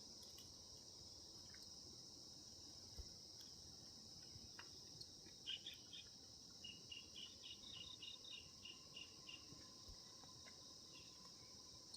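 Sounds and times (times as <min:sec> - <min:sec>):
insects chirring: 0:00.0 - 0:11.9.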